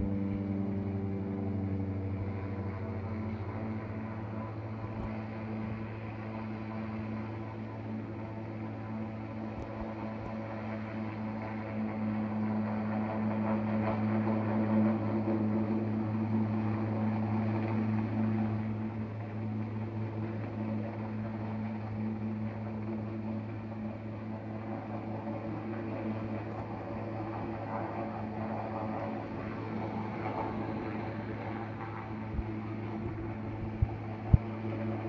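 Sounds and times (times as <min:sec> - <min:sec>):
low engine drone: 0:00.0 - 0:35.0.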